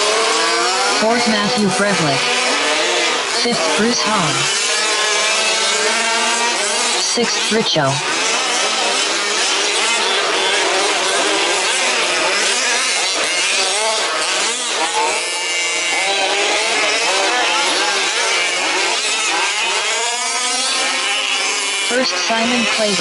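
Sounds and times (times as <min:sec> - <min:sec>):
small two-stroke engines revving: 0:00.0 - 0:23.0.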